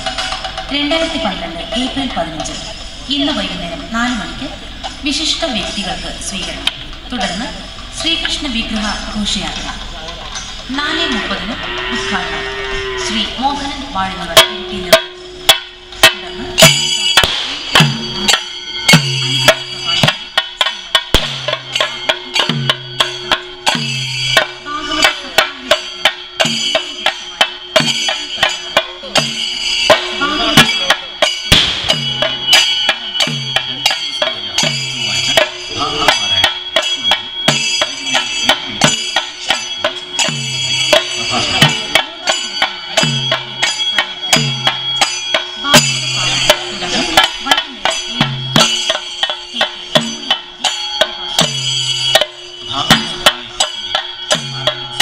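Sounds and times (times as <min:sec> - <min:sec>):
drums beaten with sticks: 0:00.0 - 0:55.0
high metallic ringing: 0:00.0 - 0:55.0.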